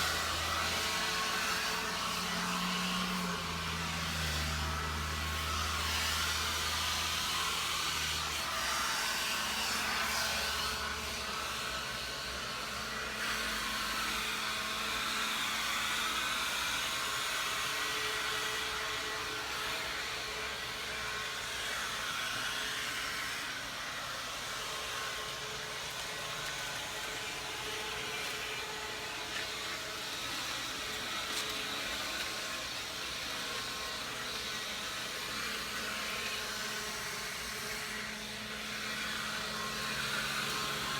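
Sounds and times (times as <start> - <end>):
electric leaf blower running: 0.0 - 40.9.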